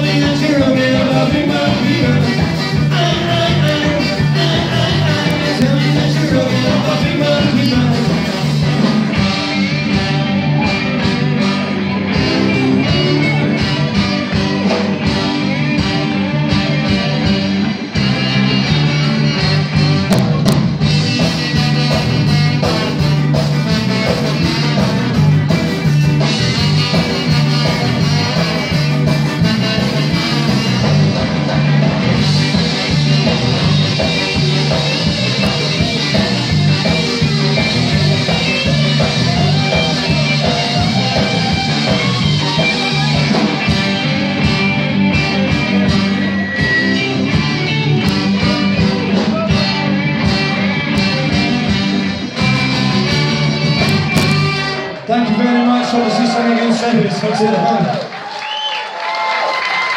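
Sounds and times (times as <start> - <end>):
live rock band playing: 0.0 - 58.4.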